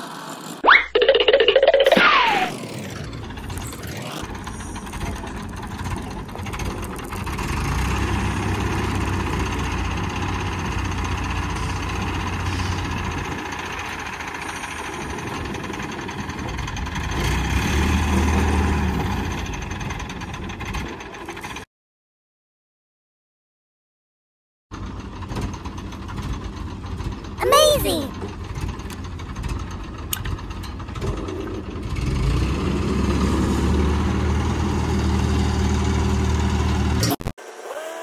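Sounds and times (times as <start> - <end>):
crane diesel engine running: 3.0 - 21.6, 24.8 - 37.0.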